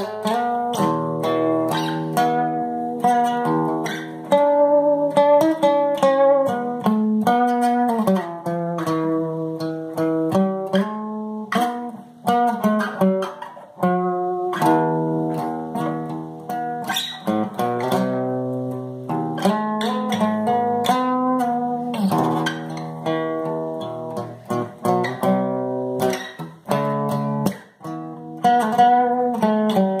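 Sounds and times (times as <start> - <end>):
guitar playing plucked notes: 0.0 - 30.0.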